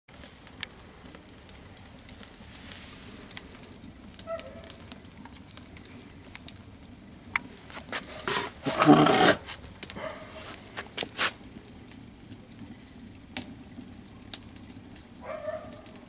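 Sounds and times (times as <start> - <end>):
campfire crackling: 0.1 - 16.0.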